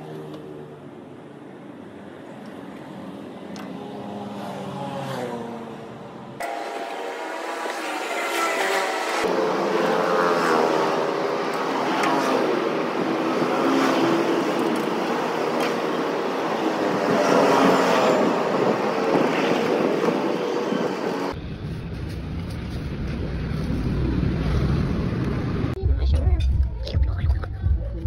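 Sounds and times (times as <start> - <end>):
vehicles passing: 0.0 - 25.9.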